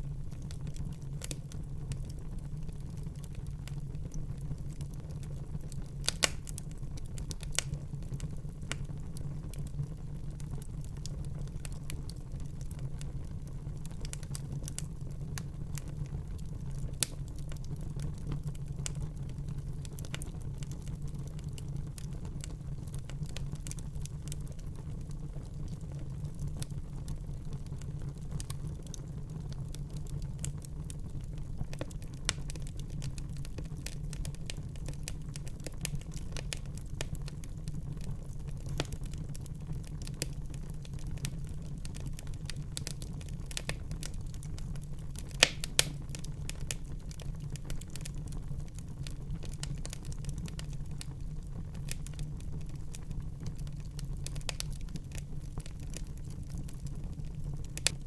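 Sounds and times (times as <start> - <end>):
fire crackling and popping: 0.0 - 58.0
fire rumbling: 0.0 - 58.0.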